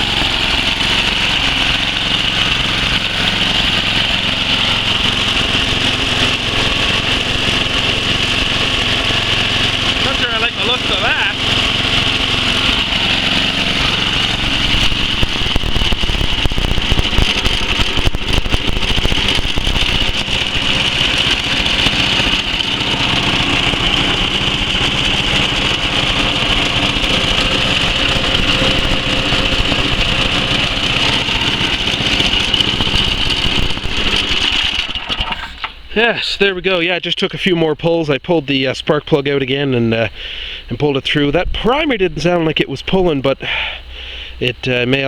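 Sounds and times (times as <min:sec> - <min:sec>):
snowblower engine running: 0:00.0 - 0:44.8.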